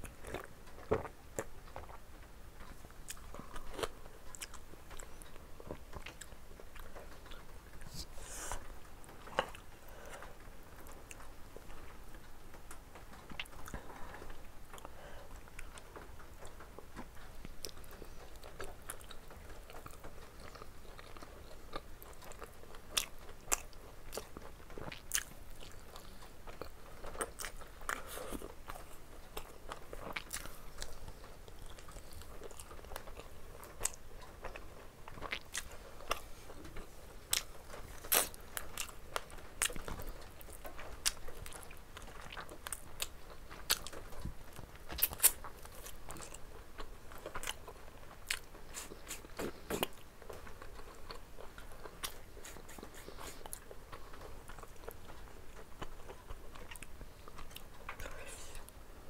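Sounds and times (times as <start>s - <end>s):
person chewing food: 0.0s - 58.8s.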